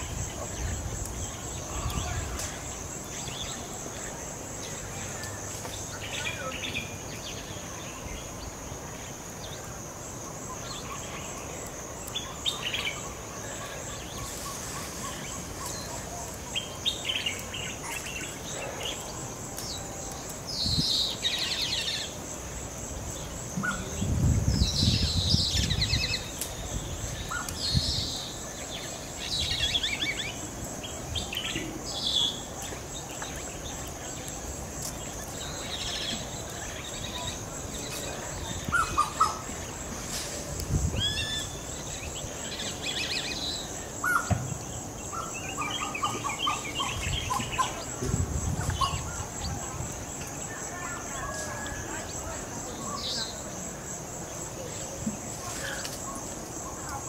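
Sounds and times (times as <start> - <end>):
wild birds calling: 0.0 - 40.2, 40.9 - 57.0.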